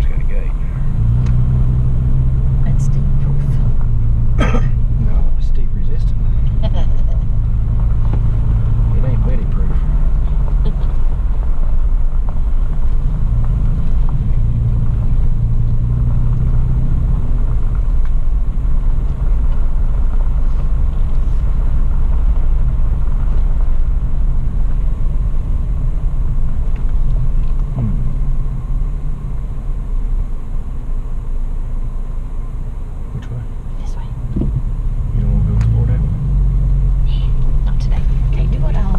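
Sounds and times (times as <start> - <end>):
car engine running at low speed: 0.0 - 38.9.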